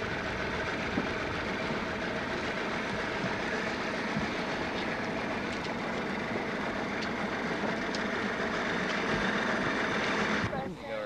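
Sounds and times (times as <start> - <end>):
boat running noise: 0.0 - 11.0
faint engine hum: 0.0 - 11.0.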